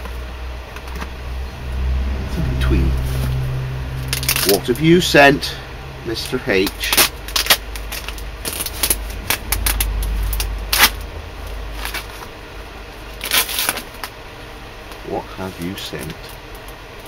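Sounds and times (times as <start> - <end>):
low rumble: 0.0 - 15.1.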